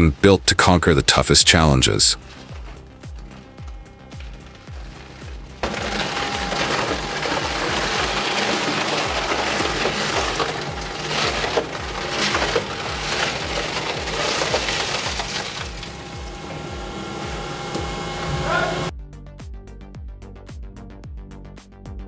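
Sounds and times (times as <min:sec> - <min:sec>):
wood crushed in shredder: 0:00.0 - 0:18.9
background music with beat: 0:00.0 - 0:22.0.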